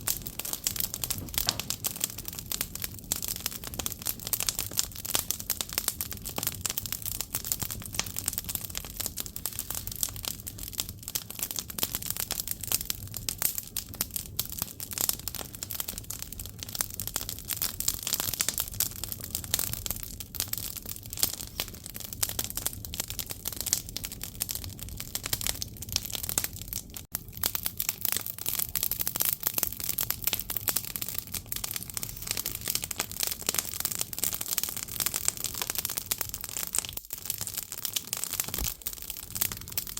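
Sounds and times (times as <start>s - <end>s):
logs crackling and popping in fire: 0.0s - 39.9s.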